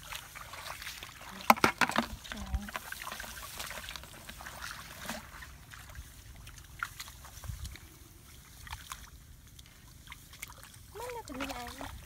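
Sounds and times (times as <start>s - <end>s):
splashing in muddy water: 0.0s - 12.0s.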